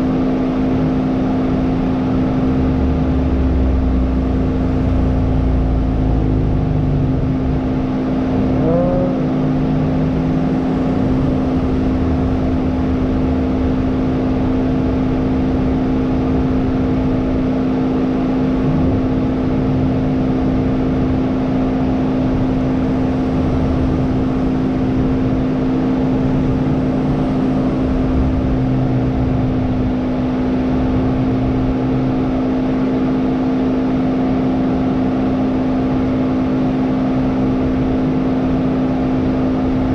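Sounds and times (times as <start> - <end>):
car engine humming steadily: 0.0 - 39.9.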